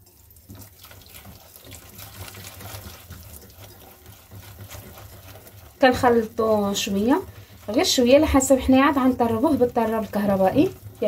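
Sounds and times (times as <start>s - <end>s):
whisk beating batter in bowl: 0.0s - 11.0s.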